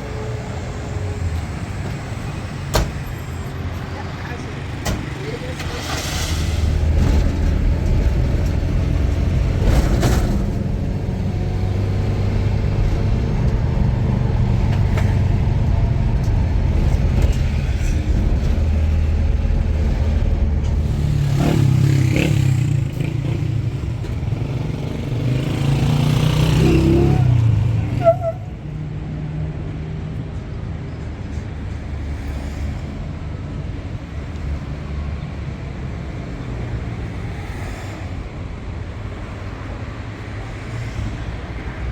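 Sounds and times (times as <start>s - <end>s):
motor vehicle engine rumble: 0.0s - 39.8s.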